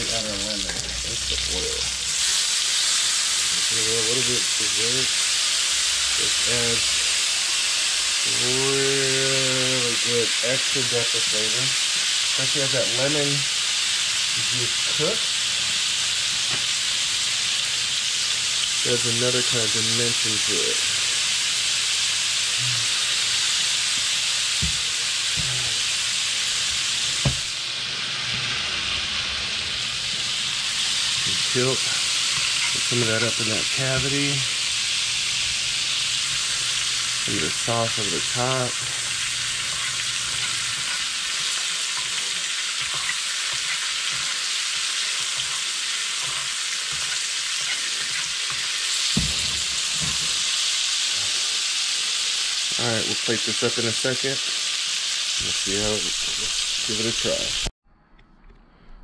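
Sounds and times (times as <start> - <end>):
fish sizzling in oil: 0.0 - 57.7.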